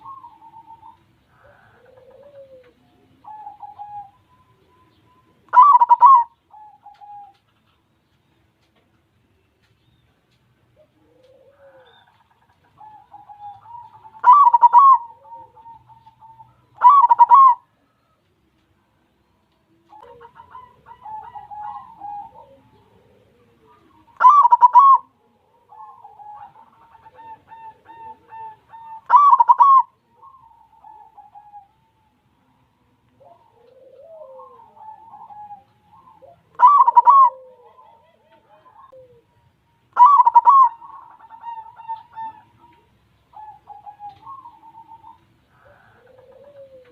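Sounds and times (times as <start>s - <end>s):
dove cooing: 0.0s - 7.9s, 10.6s - 18.3s, 19.7s - 46.9s.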